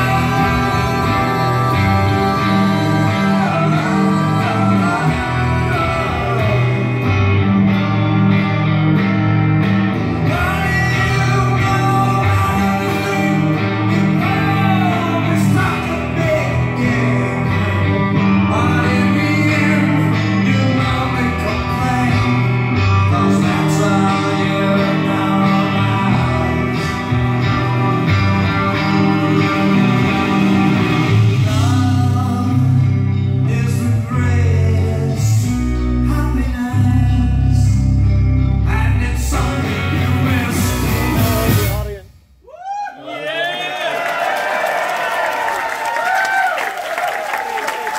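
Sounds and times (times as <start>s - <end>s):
man singing: 0.0s - 7.5s, 10.2s - 42.2s
electric guitar: 0.0s - 42.2s
bass notes: 0.0s - 42.4s.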